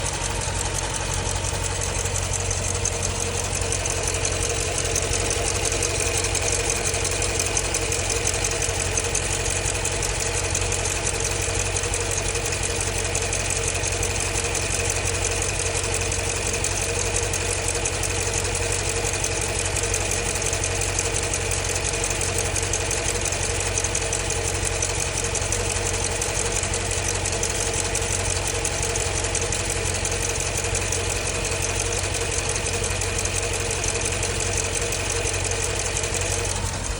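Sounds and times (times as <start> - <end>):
car engine idling: 0.0 - 36.9
fast even engine ticking: 0.0 - 36.9.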